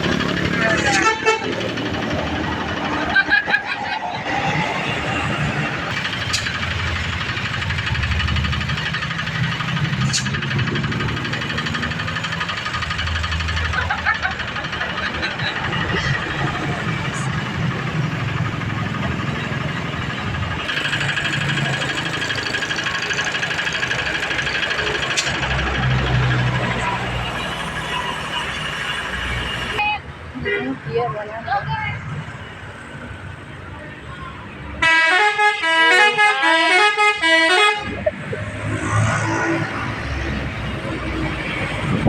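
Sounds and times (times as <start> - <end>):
diesel bus engine rumbling: 0.0 - 42.0.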